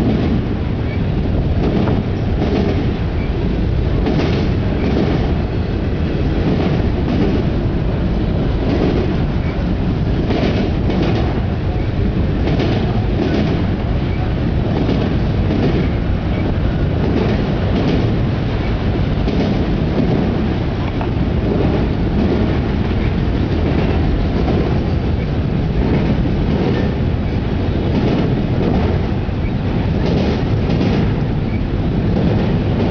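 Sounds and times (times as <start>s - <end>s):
wheels clacking over rail joints: 0.0s - 5.6s, 6.3s - 32.9s
freight train rumbling: 0.0s - 32.9s.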